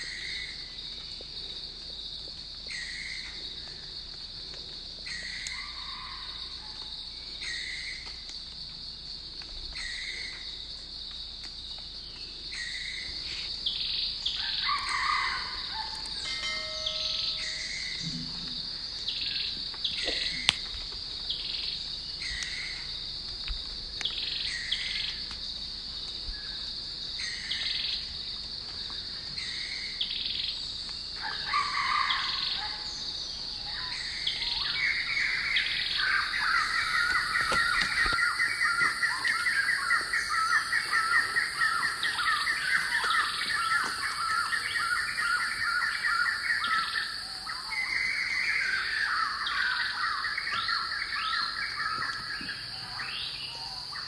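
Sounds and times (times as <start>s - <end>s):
high insect whine: 0.0s - 54.0s
insect drone: 0.0s - 54.0s.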